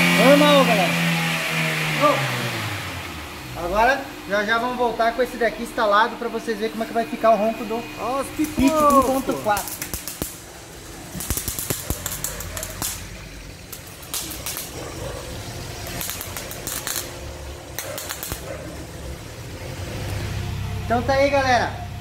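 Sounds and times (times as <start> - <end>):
welder hissing bursts: 0.0 - 19.0
steady low hum: 0.0 - 22.0.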